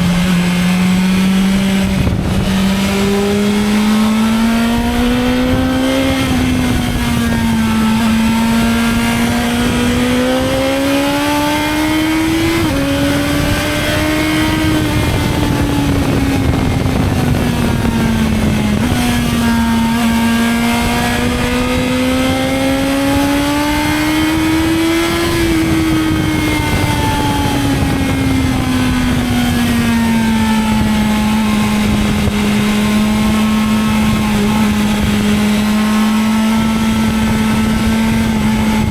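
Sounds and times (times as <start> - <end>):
gear changes: 0.0 - 38.9
motorcycle engine: 0.0 - 38.9
wind rush: 0.0 - 38.9.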